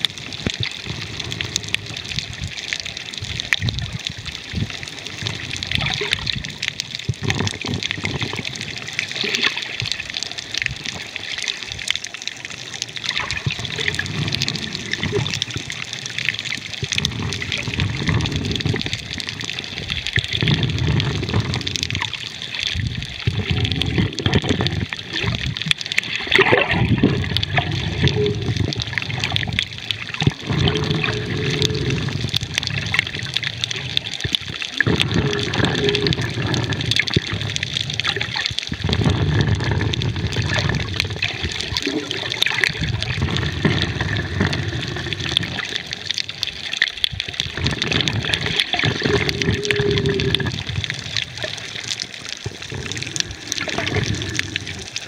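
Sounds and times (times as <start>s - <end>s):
muffled underwater water sloshing: 0.0s - 55.0s.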